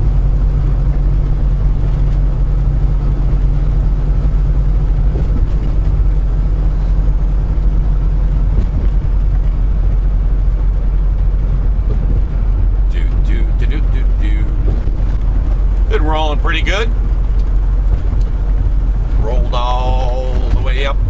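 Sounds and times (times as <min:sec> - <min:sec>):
truck engine and tyres droning: 0:00.0 - 0:21.0.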